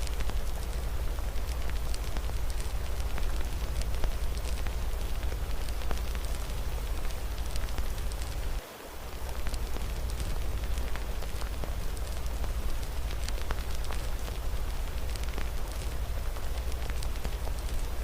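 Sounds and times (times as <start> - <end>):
fire crackling and popping: 0.0 - 18.0
rain hiss: 0.0 - 18.0.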